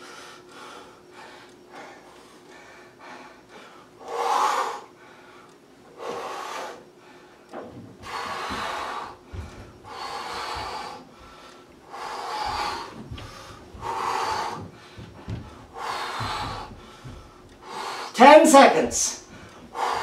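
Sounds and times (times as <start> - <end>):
man breathing hard: 0.0 - 18.2, 19.2 - 20.0.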